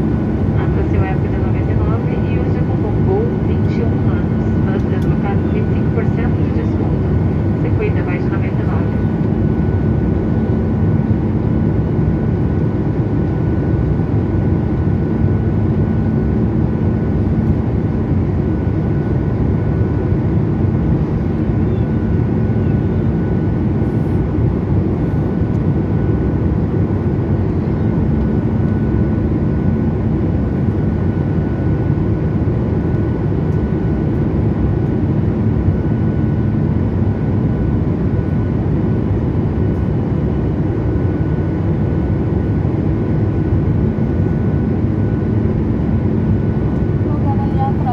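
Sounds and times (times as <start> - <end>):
airliner cabin engine rush: 0.0 - 47.9.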